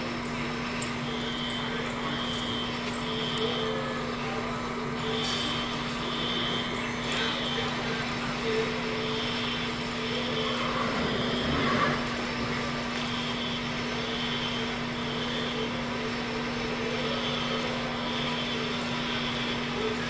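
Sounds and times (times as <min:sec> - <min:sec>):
mechanical hum and drone: 0:00.0 - 0:20.0.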